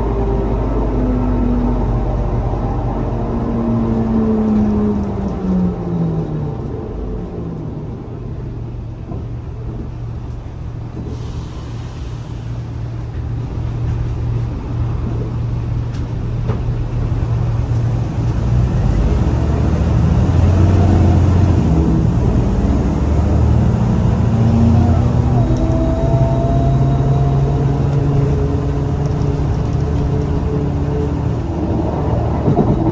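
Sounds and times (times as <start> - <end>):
bus engine droning: 0.0 - 32.9.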